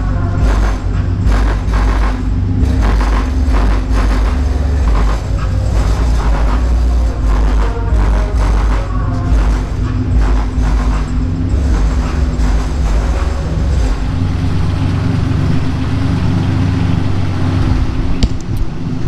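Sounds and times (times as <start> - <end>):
bass-heavy music through subwoofer: 0.0 - 19.0.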